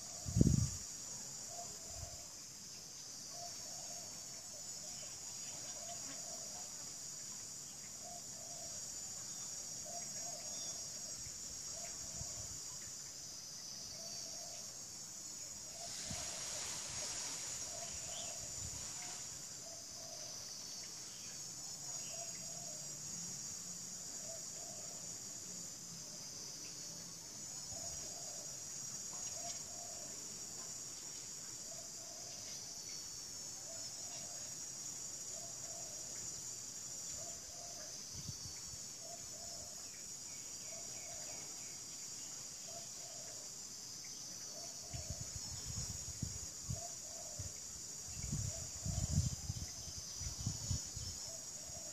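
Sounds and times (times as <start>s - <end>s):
high-pitched insect chorus: 0.0s - 51.9s.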